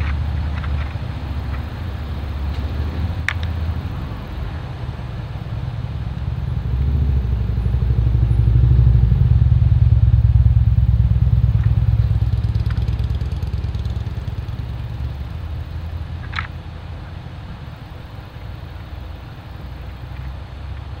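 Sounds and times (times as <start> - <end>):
passing vehicle engine rumble: 0.0 - 21.0.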